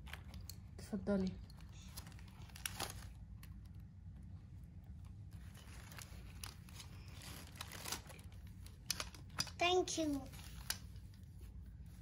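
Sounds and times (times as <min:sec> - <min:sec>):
low steady hum: 0:00.0 - 0:12.0
rustling of small things handled: 0:00.0 - 0:12.0.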